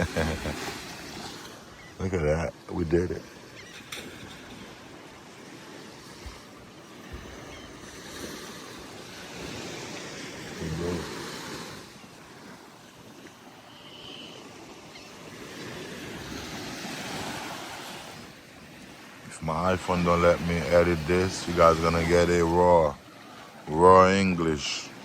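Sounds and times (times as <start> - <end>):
ocean surf on beach: 0.0 - 25.0.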